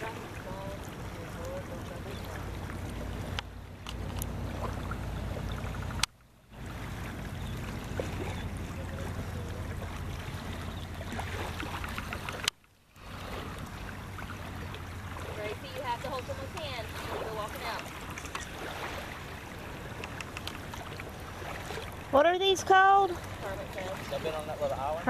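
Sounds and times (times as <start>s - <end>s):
surf washing: 0.0s - 25.0s.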